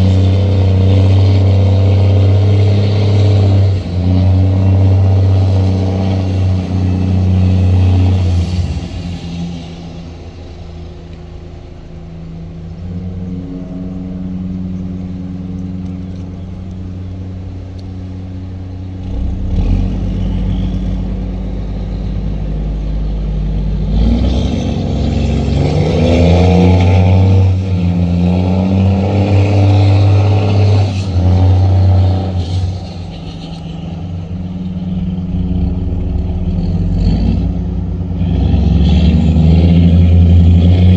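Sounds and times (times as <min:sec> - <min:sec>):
diesel engines running: 0:00.0 - 0:40.9.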